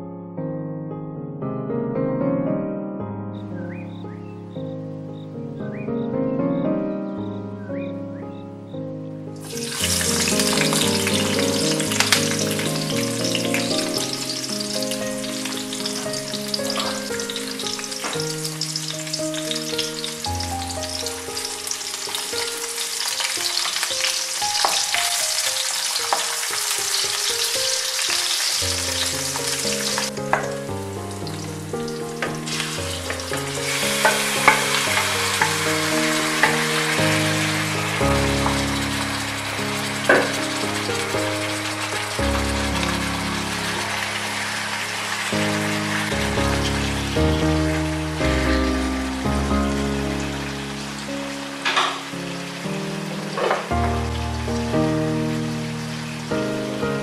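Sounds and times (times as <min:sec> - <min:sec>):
background music: 0:02.4 - 0:57.0
onions sizzling in hot oil: 0:09.4 - 0:57.0.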